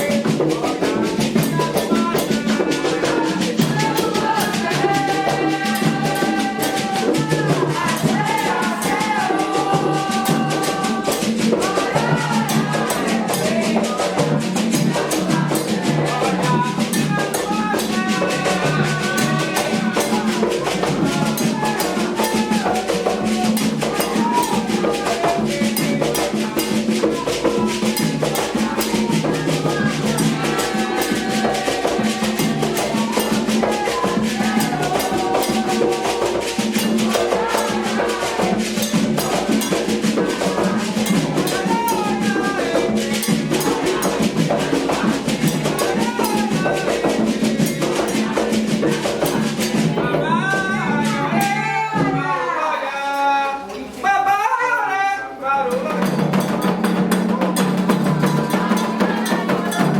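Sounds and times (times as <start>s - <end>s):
rattling percussion: 0.0s - 54.4s, 55.6s - 59.9s
hand drums: 0.0s - 54.5s, 55.6s - 59.9s
group singing chants: 0.0s - 59.9s.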